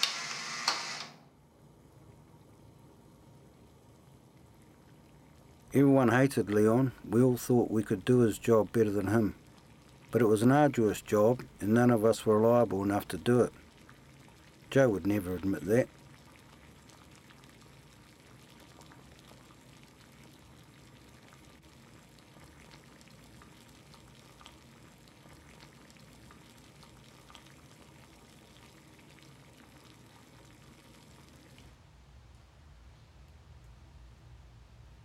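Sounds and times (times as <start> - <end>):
low hiss: 0.0 - 35.0
trickling water crackle: 1.3 - 34.8.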